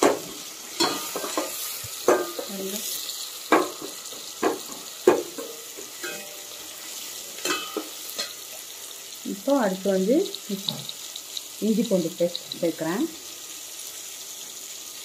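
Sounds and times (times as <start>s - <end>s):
onions sizzling in a pot: 0.0s - 15.0s.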